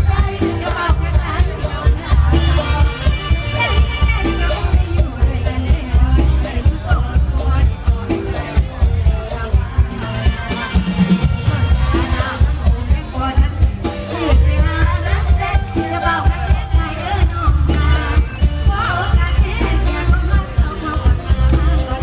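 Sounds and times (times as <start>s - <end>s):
woman singing: 0.0s - 22.0s.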